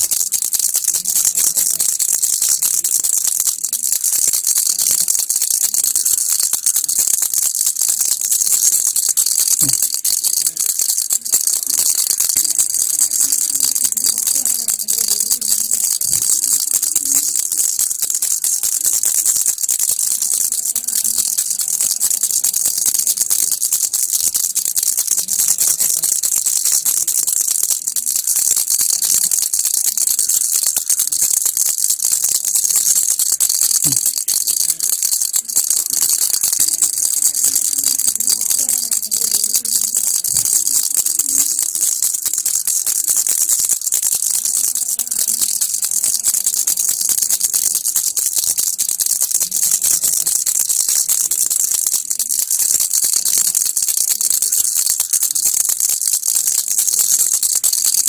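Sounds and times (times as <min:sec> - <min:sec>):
baby rattle shaken: 0:00.0 - 0:58.0.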